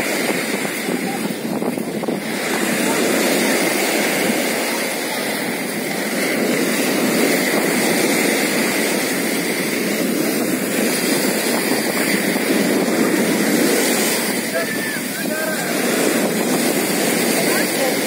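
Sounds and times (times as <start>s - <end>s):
waves breaking on beach: 0.0s - 18.0s.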